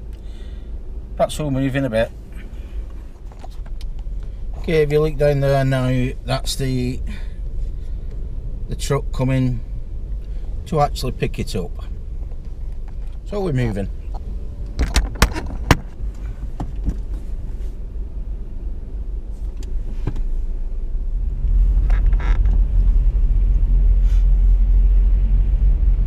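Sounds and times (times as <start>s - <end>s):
car engine: 0.0s - 26.0s
road rumble: 0.0s - 26.0s.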